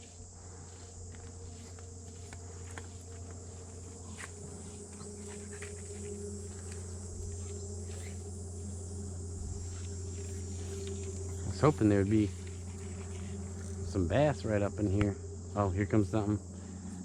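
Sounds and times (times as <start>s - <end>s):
insects chirring: 0.0s - 17.0s
low steady hum: 0.0s - 17.0s.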